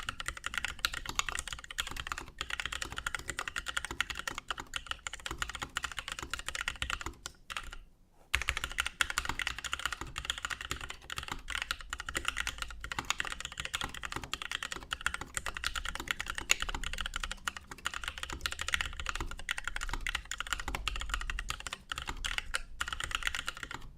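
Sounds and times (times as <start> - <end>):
mechanical keyboard typing: 0.0 - 23.9.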